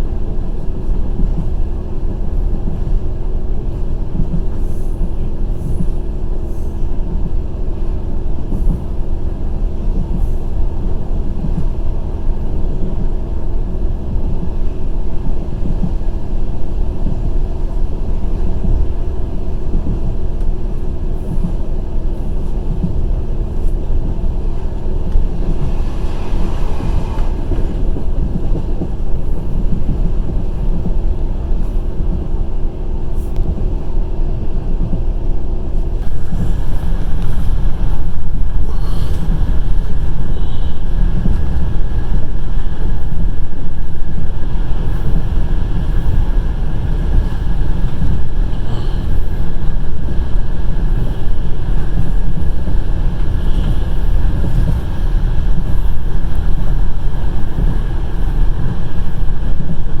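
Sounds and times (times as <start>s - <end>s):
train rumbling at speed: 0.0s - 60.0s.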